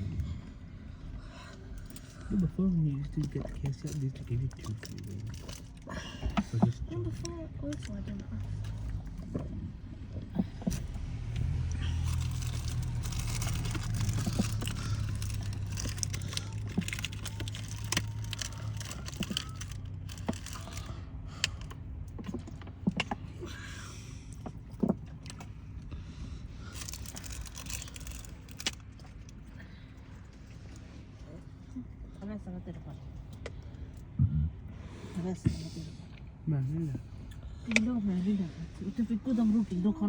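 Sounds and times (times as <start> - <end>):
low vehicle rumble: 0.0 - 40.0.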